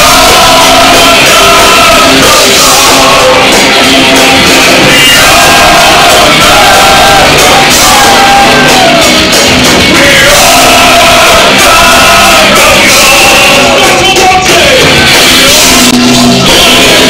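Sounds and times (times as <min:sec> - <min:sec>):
live rock band playing: 0:00.0 - 0:17.0
person shouting and singing: 0:00.0 - 0:17.0.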